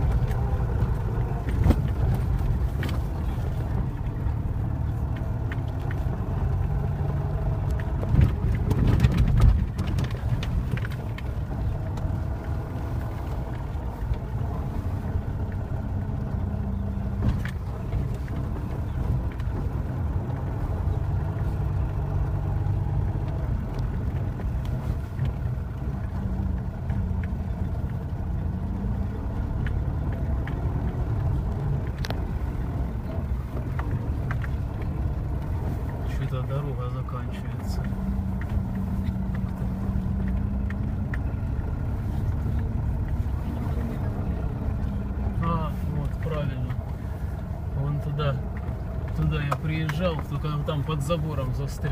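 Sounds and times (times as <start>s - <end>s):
car engine rumble and road noise: 0.0s - 51.9s.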